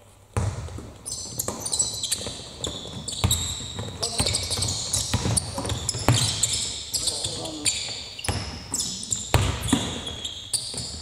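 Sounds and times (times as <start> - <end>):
basketballs bouncing on hardwood: 0.4 - 11.0
sneakers squeaking: 0.4 - 11.0.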